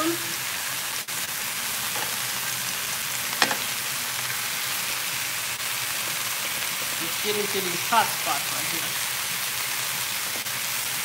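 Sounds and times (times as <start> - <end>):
beef sizzling in a skillet: 0.0 - 11.0.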